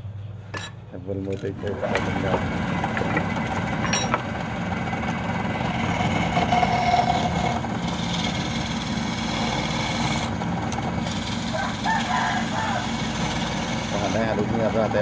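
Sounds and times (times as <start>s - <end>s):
wood lathe motor hum: 1.6s - 15.0s.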